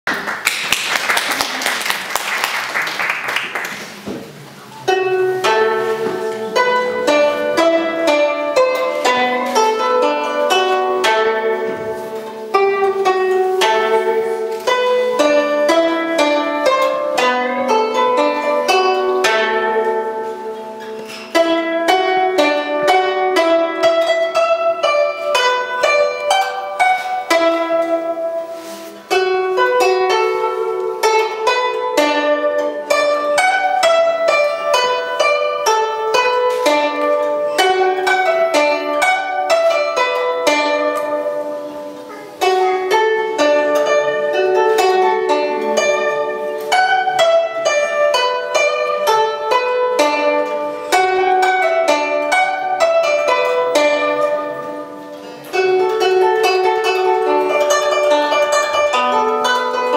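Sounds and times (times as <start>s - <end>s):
zither plucked in lively phrases: 3.9s - 59.9s.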